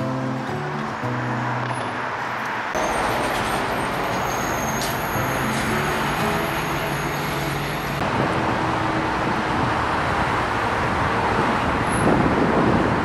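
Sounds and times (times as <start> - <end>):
cars passing on road: 0.0 - 13.0.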